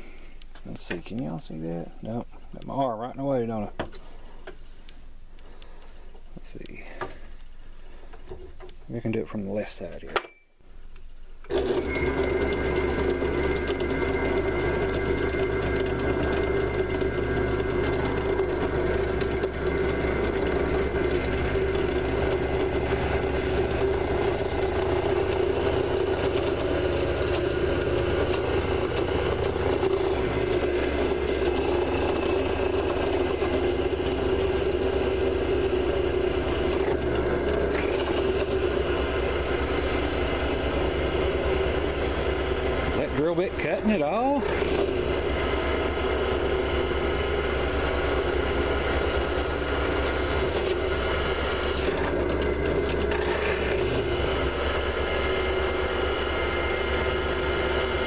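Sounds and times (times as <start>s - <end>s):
drill bit rubbing wood: 11.5s - 58.0s
lathe motor running: 11.5s - 58.0s.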